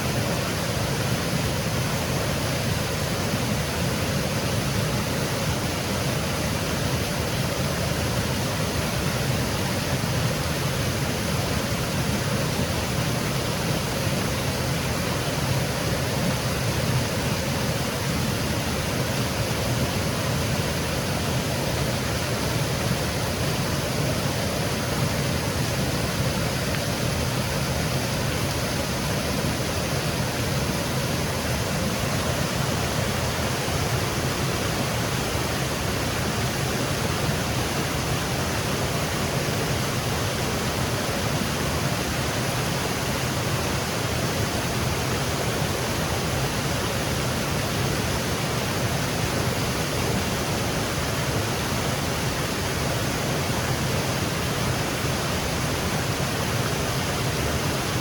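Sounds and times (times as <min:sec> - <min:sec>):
water cascading over rocks: 0:00.0 - 0:58.0.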